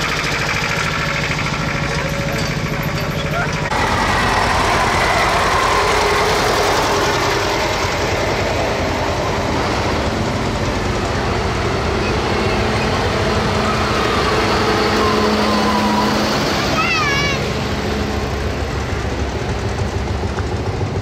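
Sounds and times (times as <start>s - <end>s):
diesel tractor engine hum: 0.0s - 21.0s
old tractor engine passing: 0.0s - 21.0s.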